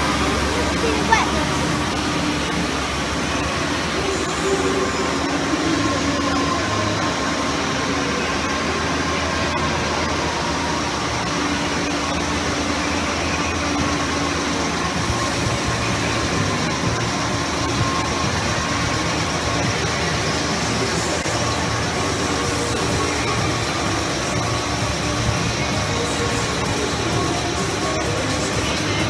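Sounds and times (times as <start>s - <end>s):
background chatter: 0.0s - 29.0s
ice resurfacing machine droning: 0.0s - 29.0s.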